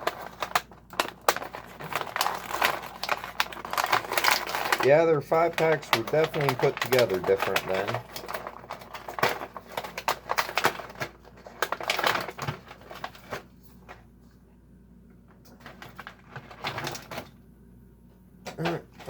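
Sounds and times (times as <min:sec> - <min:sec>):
plastic packaging crinkling: 0:00.0 - 0:14.0, 0:15.5 - 0:17.2.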